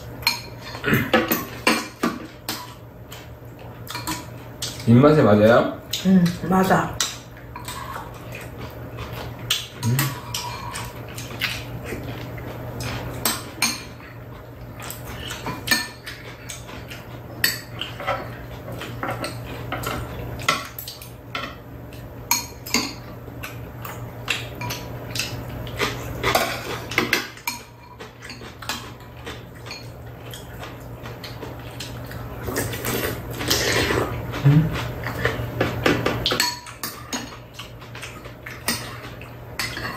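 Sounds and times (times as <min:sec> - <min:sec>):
utensils clinking against bowls: 0:00.2 - 0:05.2, 0:06.3 - 0:14.2, 0:14.8 - 0:39.9.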